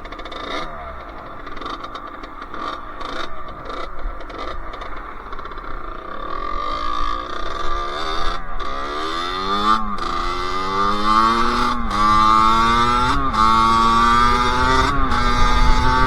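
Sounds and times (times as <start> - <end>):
two-stroke engine accelerating: 0.0 - 16.0.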